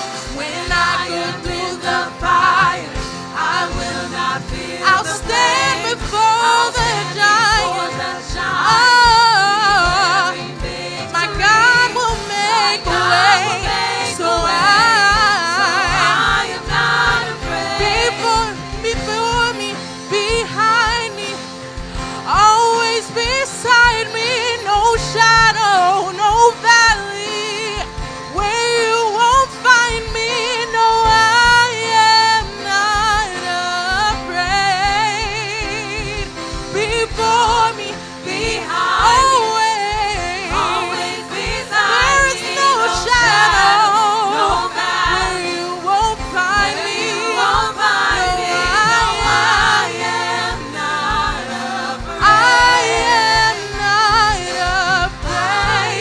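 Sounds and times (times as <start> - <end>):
band accompaniment: 0.0 - 56.0
gospel singing with vibrato: 0.0 - 56.0.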